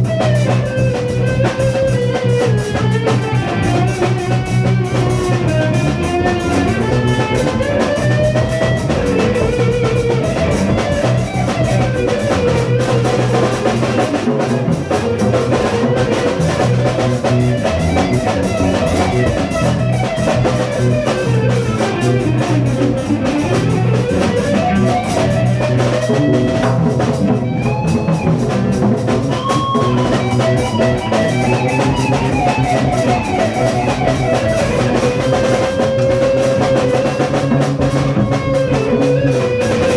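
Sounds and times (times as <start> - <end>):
drum kit: 0.0 - 39.9
guitar melody: 0.0 - 39.9
steady low bass notes: 0.0 - 39.9.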